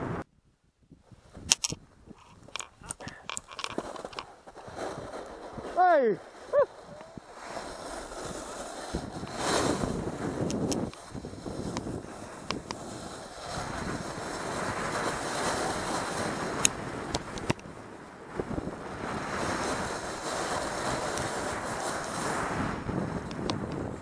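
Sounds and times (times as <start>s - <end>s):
wind noise on microphone: 0.0s - 24.0s
board carving through snow: 1.1s - 24.0s.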